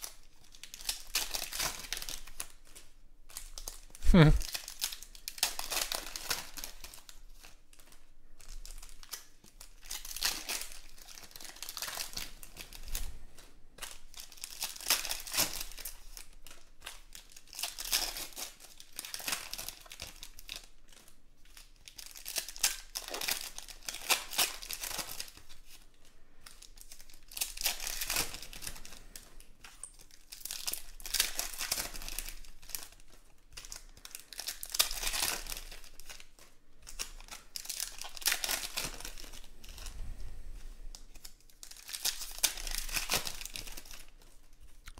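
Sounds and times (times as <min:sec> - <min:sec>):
foil wrappers crinkling and tearing: 0:00.0 - 0:40.0, 0:40.6 - 0:44.9.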